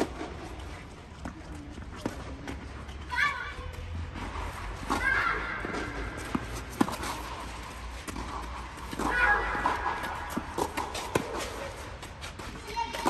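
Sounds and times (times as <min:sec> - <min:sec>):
tennis ball hit and bouncing: 0:00.0 - 0:02.7, 0:04.1 - 0:13.0.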